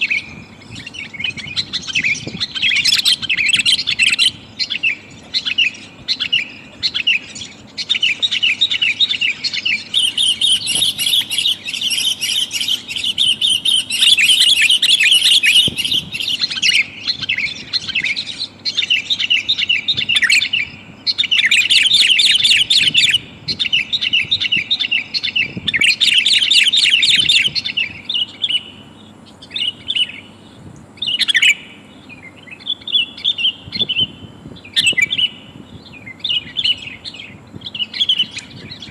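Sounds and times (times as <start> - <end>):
bulbuls chattering calls: 0.0 - 38.9.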